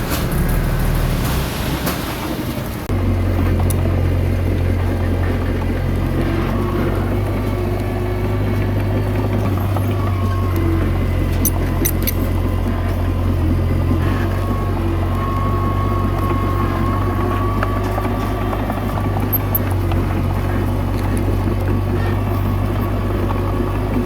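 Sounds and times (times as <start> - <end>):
bulldozer diesel engine running: 0.0 - 24.0
thin whine: 0.0 - 24.0.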